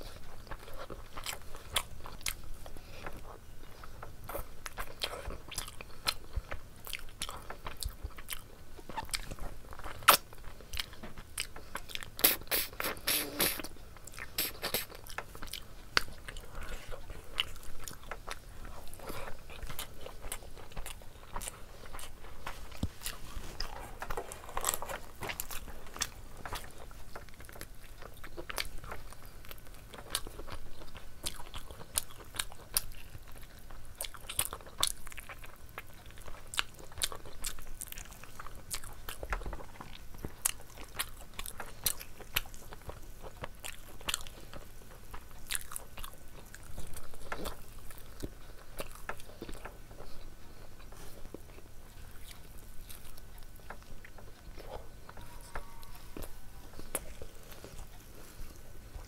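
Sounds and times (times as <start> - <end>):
chewing and biting: 0.0 - 59.0.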